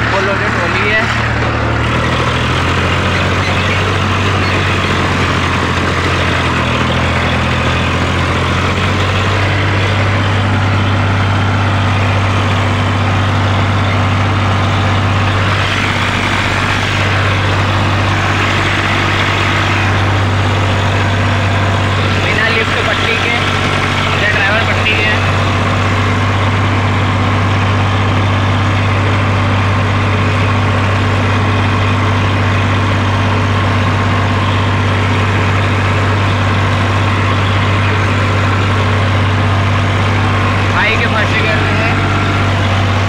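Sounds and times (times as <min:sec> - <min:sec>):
tractor diesel engine droning: 0:00.0 - 0:43.0.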